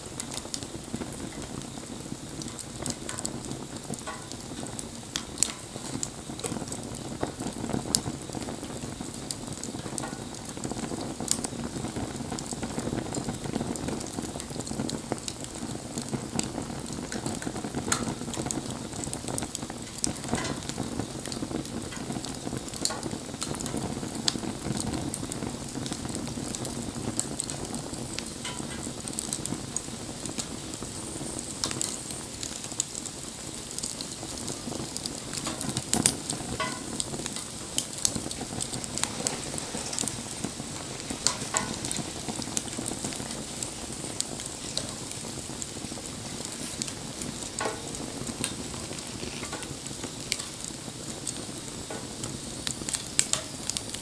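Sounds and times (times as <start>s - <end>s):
bonfire crackling and popping: 0.0s - 54.0s.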